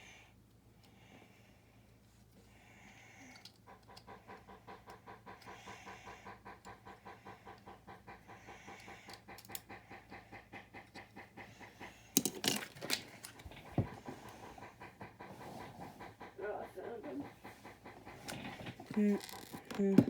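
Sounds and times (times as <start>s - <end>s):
dog panting: 0.8s - 20.0s.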